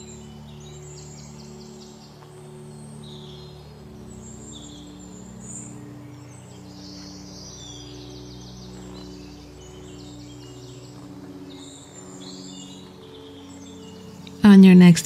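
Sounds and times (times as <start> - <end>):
ambient background music: 0.0 - 15.0
birds chirping and trilling: 0.0 - 15.0.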